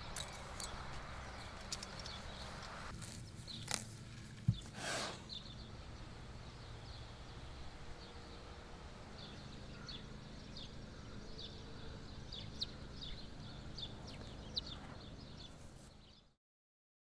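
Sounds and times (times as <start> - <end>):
faint low outdoor rumble: 0.0 - 16.3
small birds chirping: 0.0 - 16.4.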